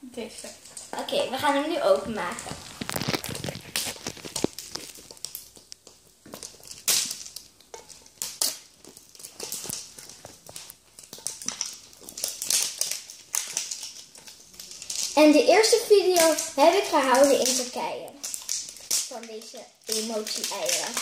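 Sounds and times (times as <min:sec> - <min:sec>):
plastic wrapping crinkling and tearing: 0:00.1 - 0:21.0.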